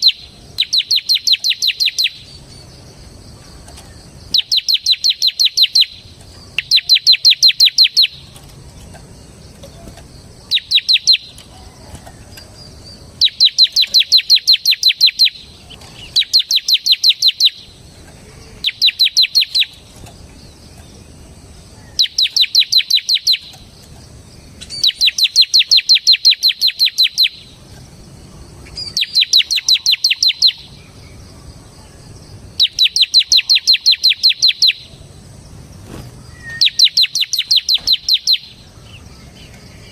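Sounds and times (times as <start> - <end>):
bird singing sharp chip notes: 0.0 - 35.0, 36.2 - 39.9.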